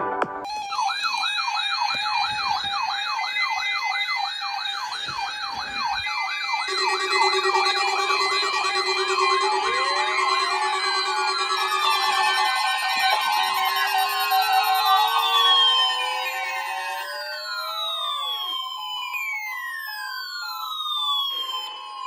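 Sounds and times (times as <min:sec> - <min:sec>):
warbling siren alarms: 0:00.4 - 0:22.0.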